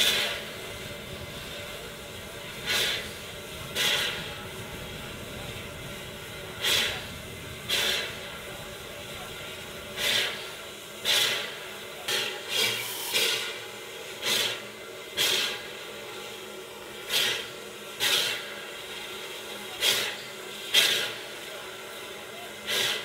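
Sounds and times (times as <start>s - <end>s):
steady background noise: 0.0s - 23.0s
steam exhaust chuffs: 0.0s - 23.0s.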